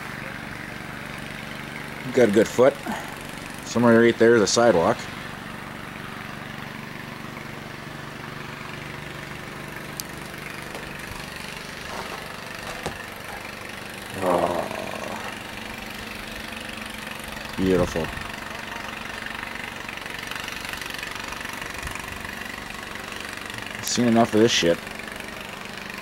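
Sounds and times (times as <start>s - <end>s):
snowblower engine idling: 0.0s - 26.0s.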